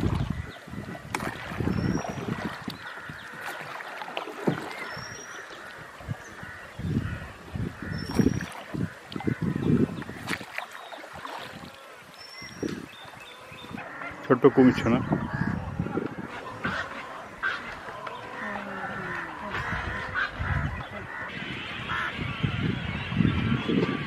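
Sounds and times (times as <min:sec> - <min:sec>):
bird calls: 0:00.0 - 0:24.0
boat and oars knocking and splashing: 0:00.0 - 0:24.0.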